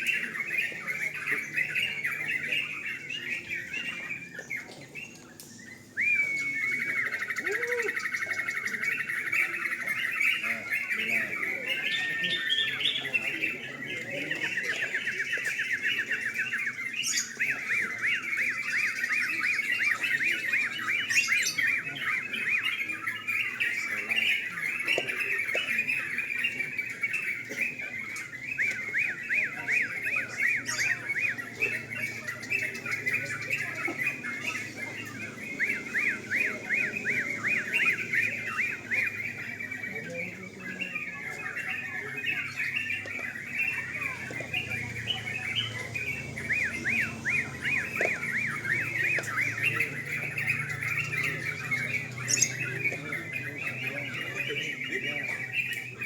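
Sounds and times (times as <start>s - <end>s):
bulbuls singing: 0.0s - 56.0s.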